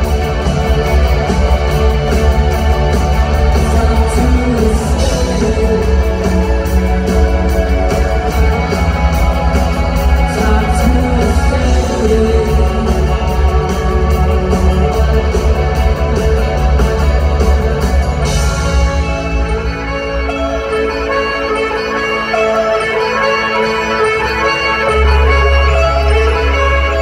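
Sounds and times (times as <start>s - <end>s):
drums keeping a steady beat: 0.0s - 27.0s
live rock band playing: 0.0s - 27.0s.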